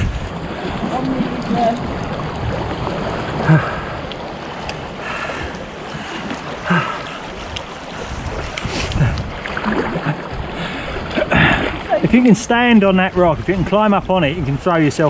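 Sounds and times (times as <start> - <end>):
sea waves washing at shore: 0.0 - 15.0
wind on microphone: 0.0 - 15.0.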